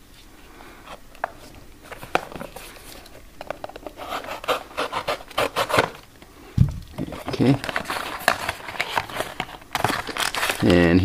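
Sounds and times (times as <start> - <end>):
cardboard scraping and rustling: 0.9 - 6.0, 7.0 - 10.8.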